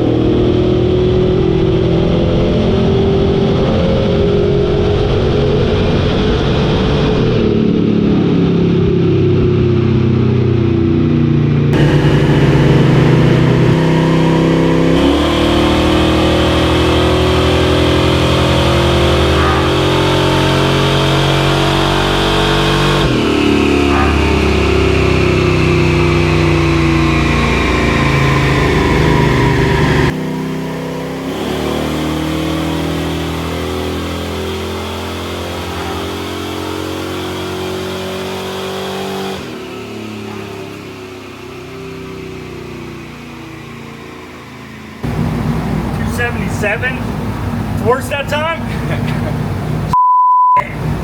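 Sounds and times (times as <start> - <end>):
engine at full throttle: 0.0 - 50.0, 50.6 - 51.0.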